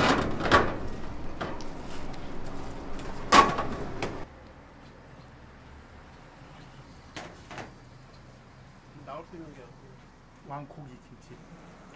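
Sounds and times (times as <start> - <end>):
steady background noise: 0.0 - 11.9.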